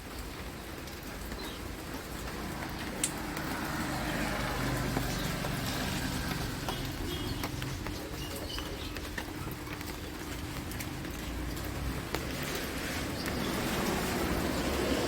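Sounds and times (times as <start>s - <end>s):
road vehicle passing by: 1.1s - 15.0s.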